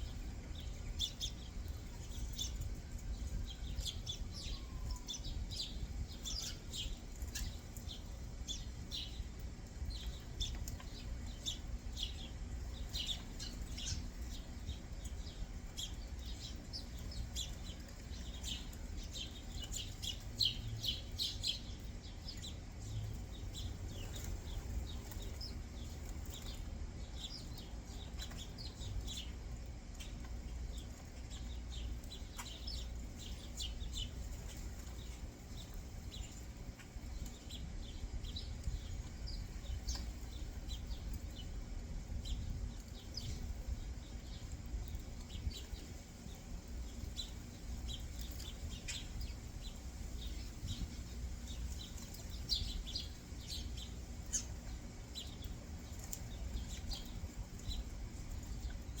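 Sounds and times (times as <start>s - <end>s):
low background rumble: 0.0s - 59.0s
songbirds chirping: 0.0s - 59.0s.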